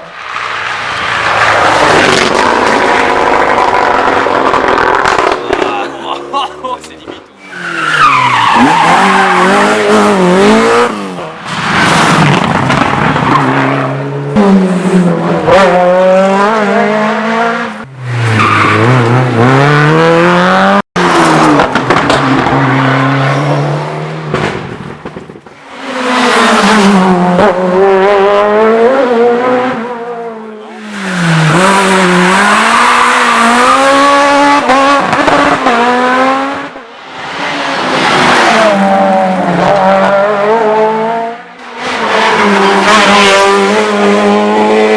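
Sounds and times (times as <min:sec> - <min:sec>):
cars passing: 0:00.0 - 0:44.9
rally car engines revving: 0:00.0 - 0:44.9.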